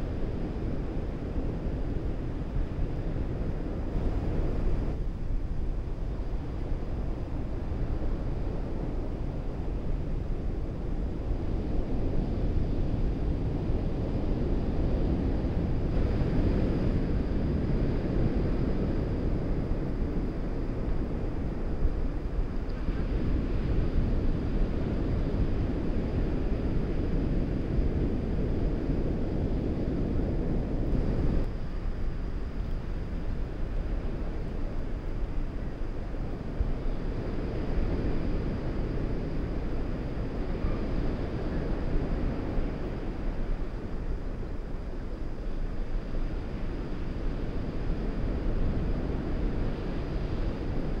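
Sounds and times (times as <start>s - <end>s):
wind blowing across microphone: 0.0s - 51.0s.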